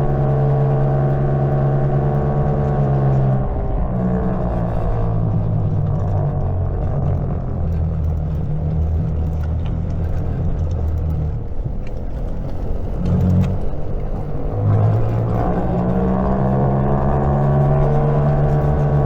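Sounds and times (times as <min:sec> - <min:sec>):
rushing riding noise: 0:00.0 - 0:19.0.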